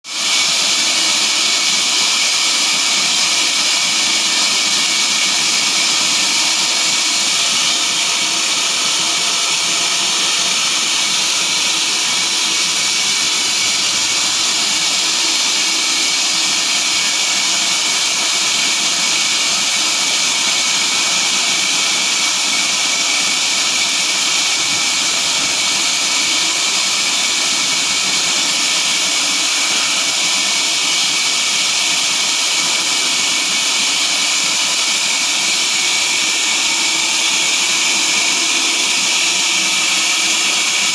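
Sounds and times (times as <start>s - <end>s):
sawmill machinery running: 0.1s - 40.9s.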